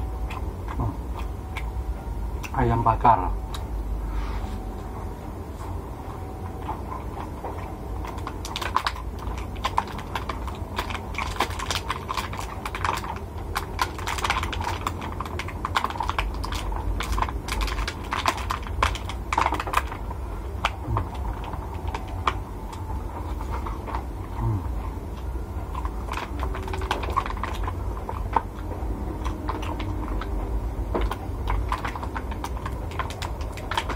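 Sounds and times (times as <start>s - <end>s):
chewing clicks and smacks: 0.0s - 2.8s, 3.4s - 3.7s, 6.4s - 33.9s
low hum: 0.0s - 33.9s.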